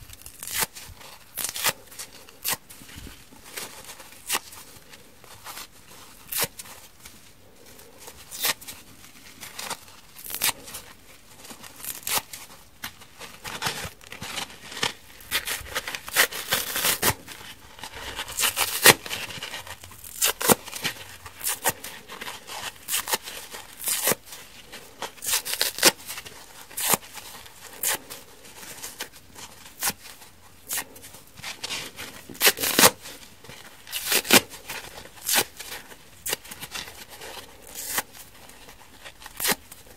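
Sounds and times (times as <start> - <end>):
foam sponges tearing: 0.0 - 39.9.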